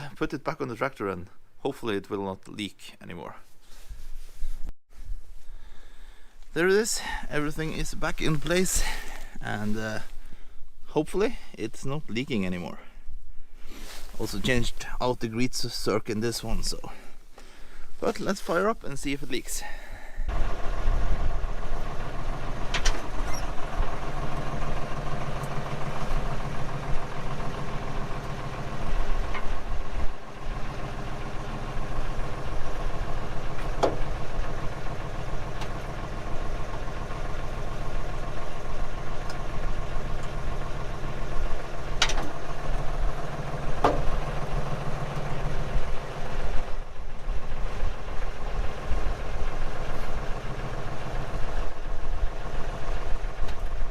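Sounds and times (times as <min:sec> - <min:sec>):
tractor diesel engine idling: 0:05.6 - 0:12.9, 0:13.7 - 0:53.9.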